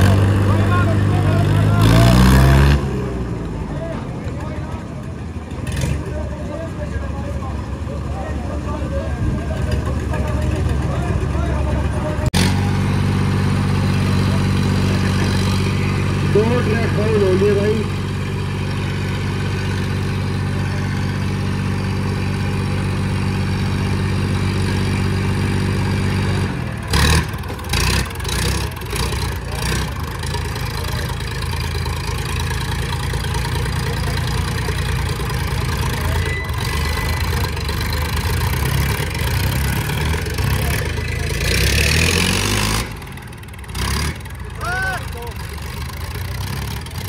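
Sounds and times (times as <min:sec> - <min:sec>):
tractor engine labouring: 0:00.0 - 0:47.0.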